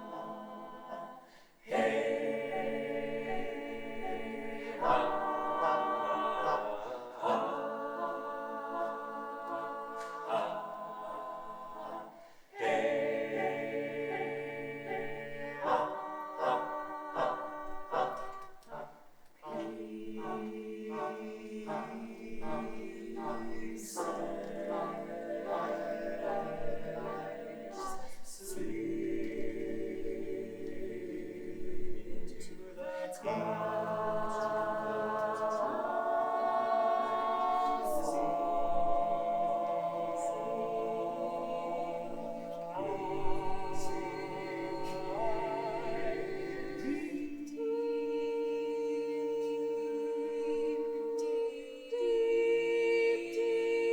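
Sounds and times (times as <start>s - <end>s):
choir singing in harmony: 0.0s - 53.9s.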